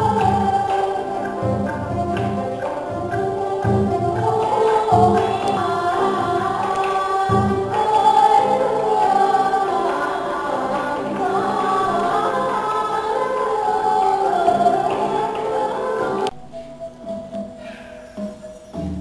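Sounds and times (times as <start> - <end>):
voices singing together: 0.0 - 18.6
instrumental ensemble: 0.0 - 19.0.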